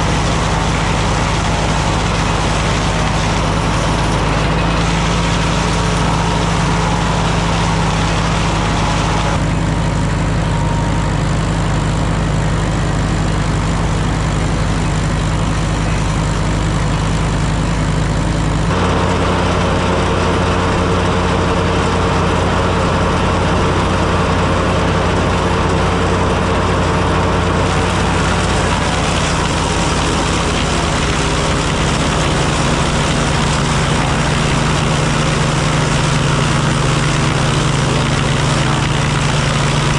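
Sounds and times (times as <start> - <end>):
tractor engine running: 0.0 - 39.9
wood planer planing planks: 0.0 - 39.9.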